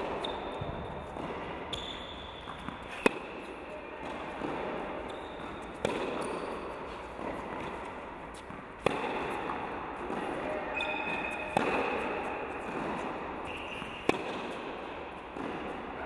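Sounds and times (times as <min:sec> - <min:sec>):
tennis ball struck by racket: 0:00.0 - 0:01.8, 0:02.4 - 0:10.4, 0:11.1 - 0:15.8
tennis ball bouncing: 0:00.0 - 0:15.9.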